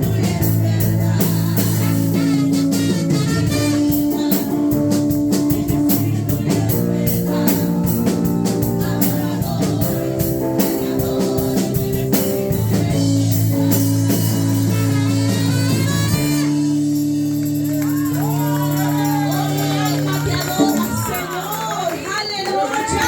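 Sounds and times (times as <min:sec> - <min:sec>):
bass guitar: 0:00.0 - 0:21.7
drum kit beat: 0:00.0 - 0:22.2
live band music: 0:00.0 - 0:23.0.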